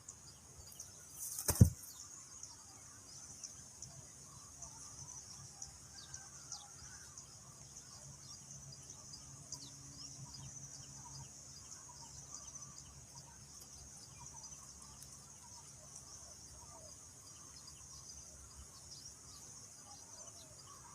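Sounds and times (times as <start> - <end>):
insect chorus: 0.0 - 20.9.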